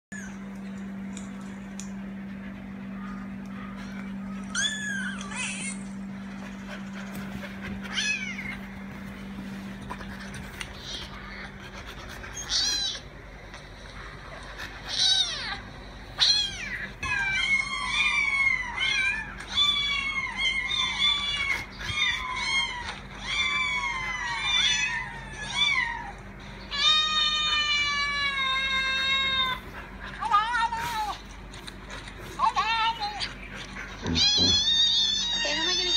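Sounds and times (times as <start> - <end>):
dogs whining: 0.1 - 35.9
low hum: 0.1 - 35.9.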